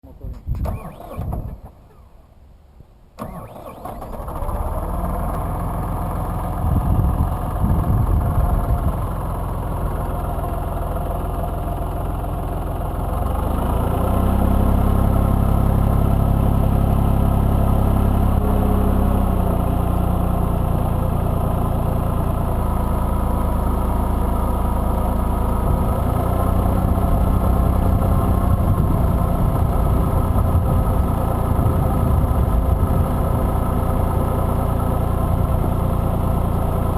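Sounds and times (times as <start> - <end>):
tractor diesel engine running: 3.2 - 36.9.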